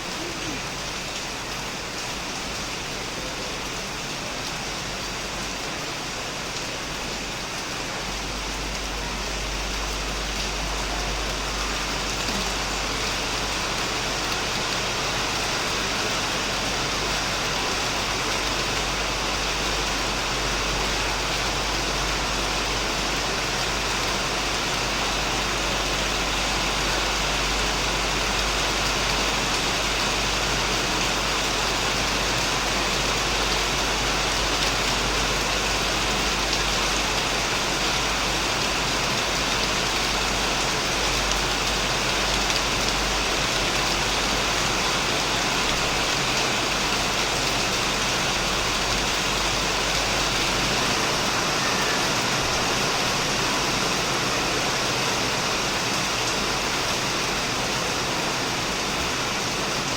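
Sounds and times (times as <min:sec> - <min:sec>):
heavy rain on a shed roof: 0:00.0 - 0:59.9.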